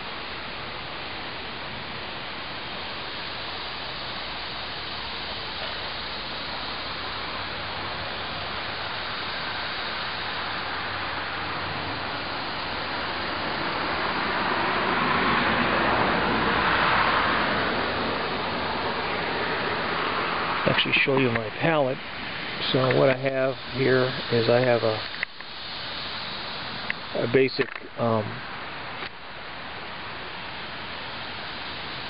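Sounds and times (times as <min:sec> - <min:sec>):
outdoor hiss: 0:00.0 - 0:32.0
car passing: 0:03.1 - 0:28.9.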